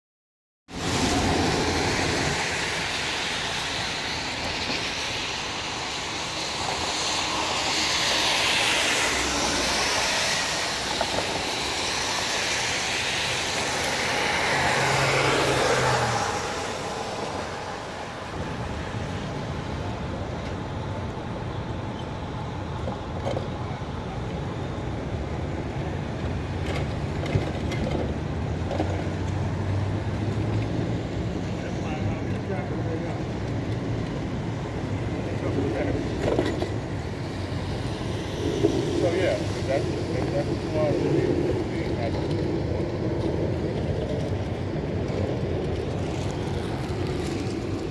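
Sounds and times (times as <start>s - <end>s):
tyres hissing on wet road: 0.7s - 27.3s, 28.0s - 47.9s.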